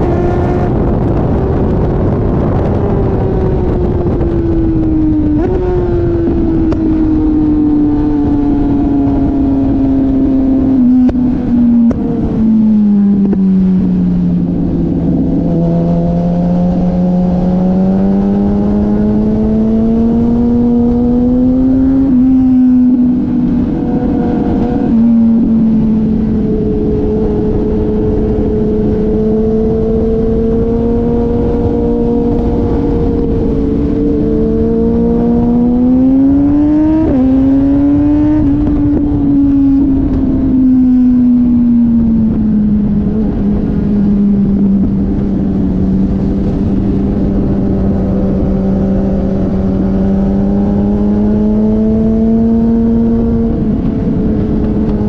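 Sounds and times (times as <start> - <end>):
motorcycle engine at speed: 0.0 - 55.0
wind rushing: 0.0 - 55.0.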